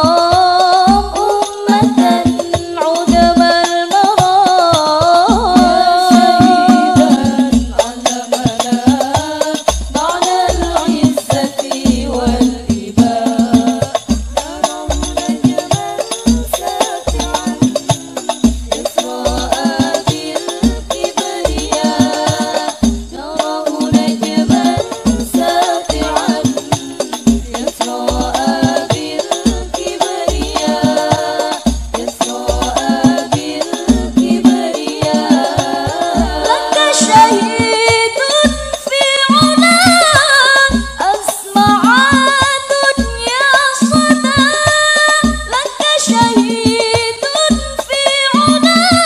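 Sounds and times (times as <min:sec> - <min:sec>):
frame drum beats: 0:00.0 - 0:49.0
rattling jingling percussion: 0:00.0 - 0:49.0
women singing devotional song: 0:00.0 - 0:49.0.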